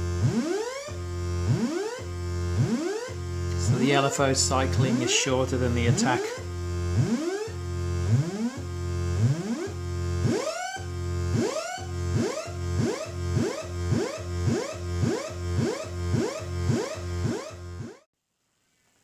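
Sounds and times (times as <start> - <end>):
buzzy low synthesizer tone: 0.0 - 18.1.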